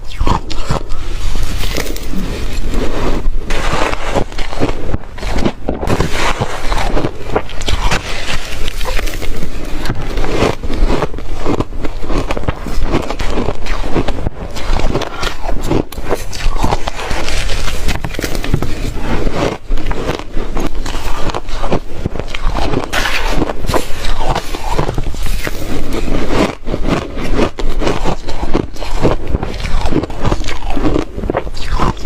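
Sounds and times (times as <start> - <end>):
ice being chewed: 0.0 - 32.0.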